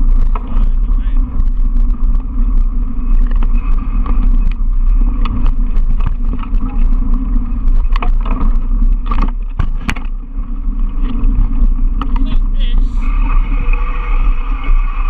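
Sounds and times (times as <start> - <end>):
bike rattling over bumps: 0.0 - 15.0
wind and tyre rumble: 0.0 - 15.0.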